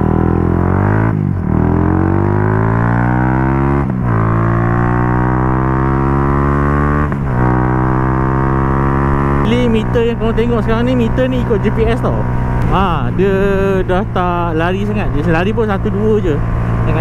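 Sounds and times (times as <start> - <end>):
motorcycle accelerating through gears: 0.0 - 17.0.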